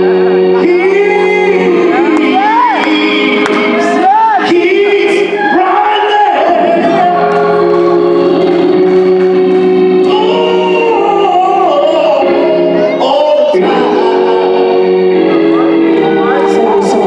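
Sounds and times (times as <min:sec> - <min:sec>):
organ chords: 0:00.0 - 0:17.0
man singing into a microphone: 0:00.4 - 0:08.7, 0:10.0 - 0:17.0.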